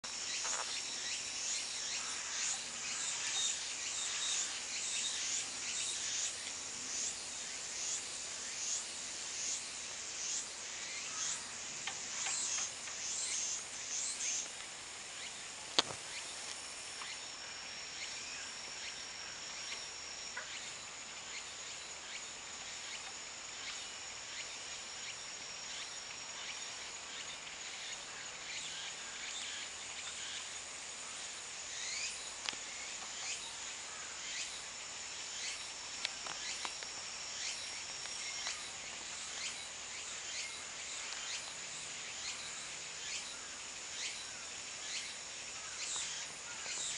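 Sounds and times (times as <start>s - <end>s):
insects trilling: 0.0s - 46.9s
lower insect trill: 0.0s - 46.9s.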